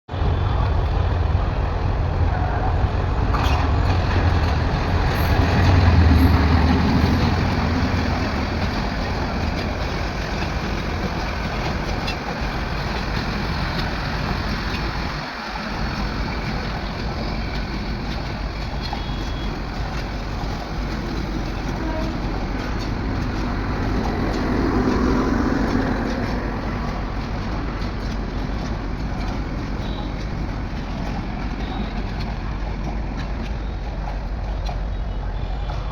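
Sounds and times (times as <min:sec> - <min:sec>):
train rumbling: 0:00.1 - 0:35.9.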